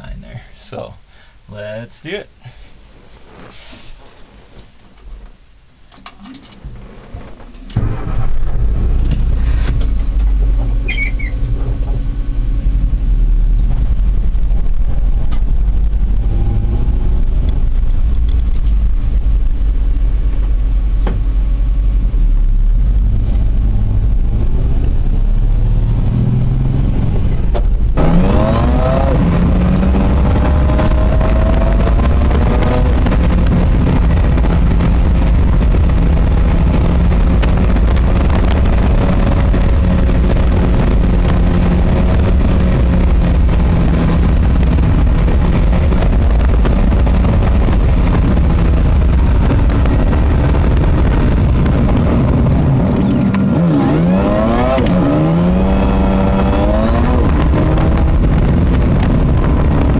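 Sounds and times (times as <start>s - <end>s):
engine and road rumble: 0.0s - 59.9s
engine revving: 7.6s - 19.5s, 22.0s - 59.9s.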